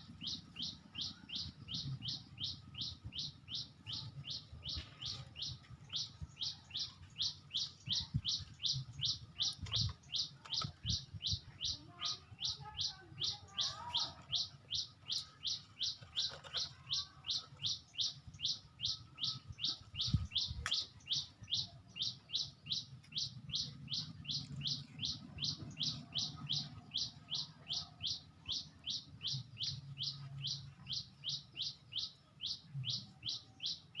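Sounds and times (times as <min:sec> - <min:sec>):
faint birds calling: 0:00.0 - 0:34.0.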